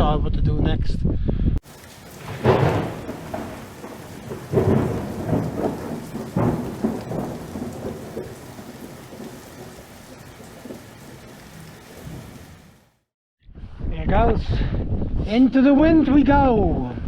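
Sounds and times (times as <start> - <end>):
wind buffeting microphone: 0.0 - 12.8, 13.5 - 17.0.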